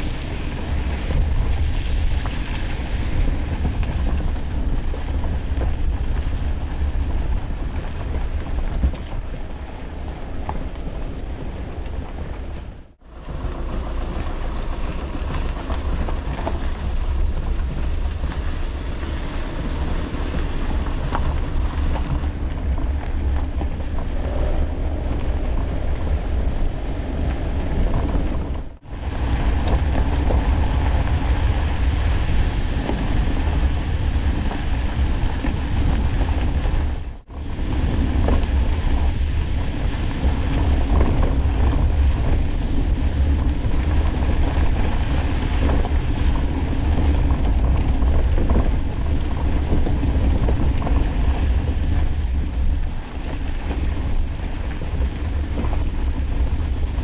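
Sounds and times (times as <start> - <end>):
vehicle rumble: 0.0 - 57.0
wind noise: 0.0 - 57.0.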